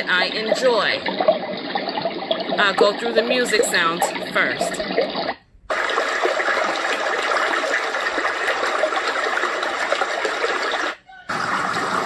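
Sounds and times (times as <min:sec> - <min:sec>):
recorded running water sound: 0:00.0 - 0:12.0.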